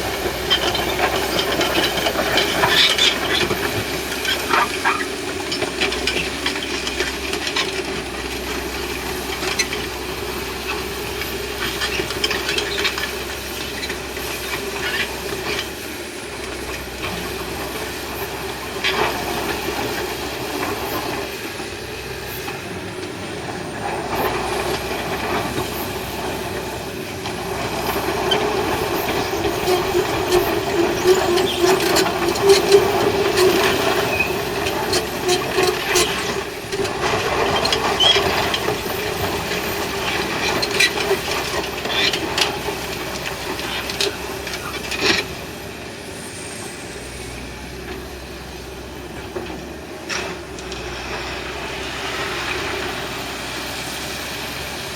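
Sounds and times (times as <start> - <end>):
excavator engine droning: 0.0 - 54.9.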